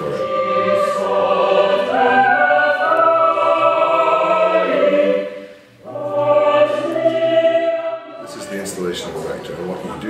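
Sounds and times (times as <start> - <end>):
mixed choir singing: 0.0 - 9.8.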